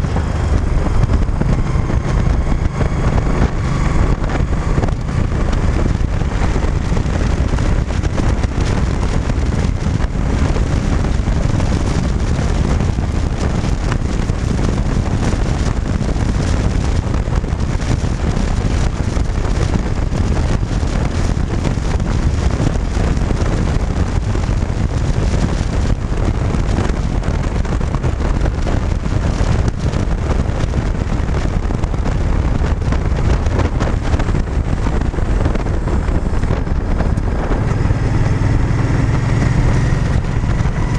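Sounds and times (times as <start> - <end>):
motorcycle engine running: 0.0 - 40.9
wind rushing on microphone: 0.0 - 40.9.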